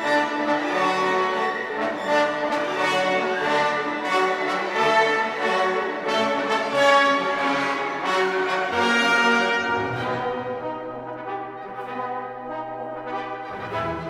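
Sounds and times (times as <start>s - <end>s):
french horn sustained notes: 0.0s - 14.0s.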